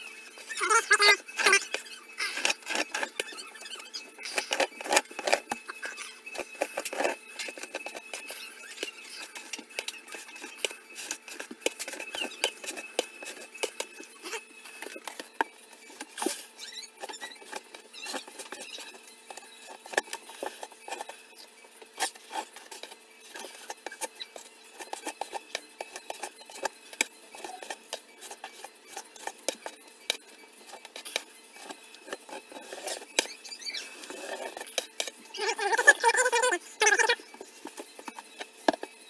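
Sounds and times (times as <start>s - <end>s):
small clicks taps and scrapes: 1.4s - 21.2s, 21.8s - 36.0s, 36.8s - 39.0s.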